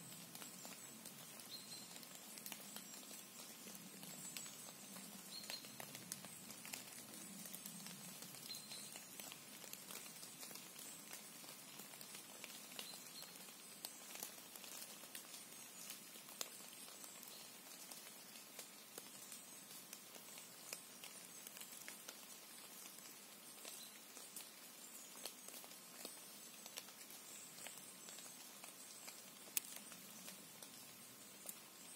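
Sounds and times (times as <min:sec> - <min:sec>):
faint steady hiss: 0:00.0 - 0:31.9
soft ticks and patters: 0:00.0 - 0:31.9.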